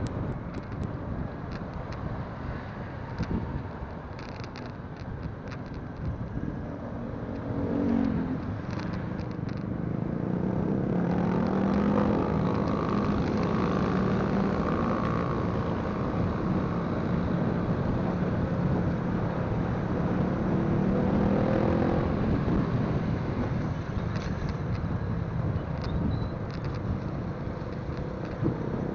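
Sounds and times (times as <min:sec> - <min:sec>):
road and wind noise: 0:00.0 - 0:28.9
motorcycle engine cruising: 0:05.4 - 0:28.9.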